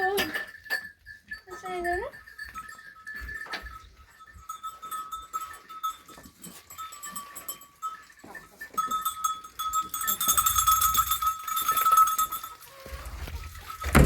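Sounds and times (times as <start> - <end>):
sheep and goats calling: 0.0 - 14.0.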